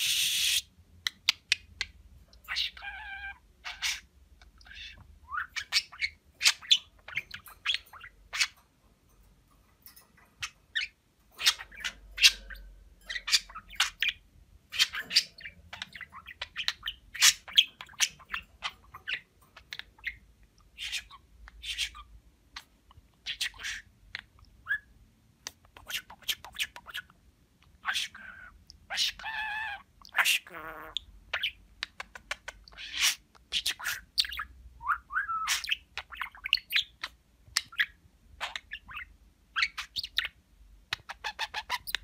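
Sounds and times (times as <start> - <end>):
budgerigar chirping: 0.0 - 8.6, 10.4 - 27.2, 27.8 - 42.0.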